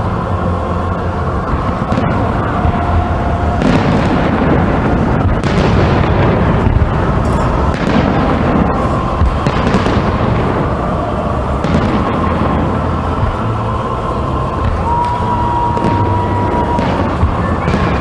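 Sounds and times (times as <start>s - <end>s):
din of distant explosions: 0.0s - 18.0s
fireworks bursting: 0.0s - 18.0s.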